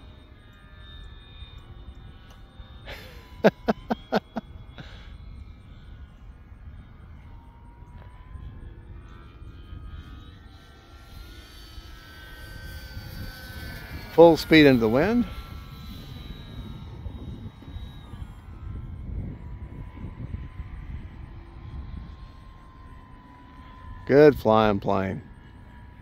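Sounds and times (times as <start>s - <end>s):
electric motor and propeller whine: 0.0s - 26.0s
wind buffeting microphone: 3.2s - 26.0s.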